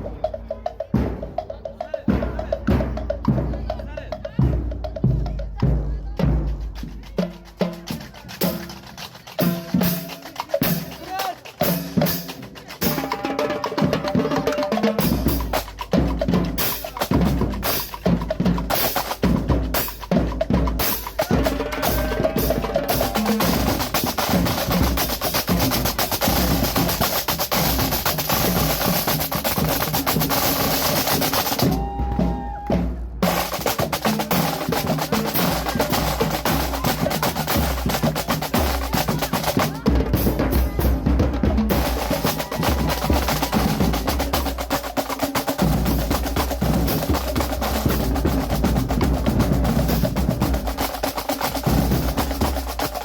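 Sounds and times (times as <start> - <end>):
percussion-heavy drumming music: 0.0 - 53.0.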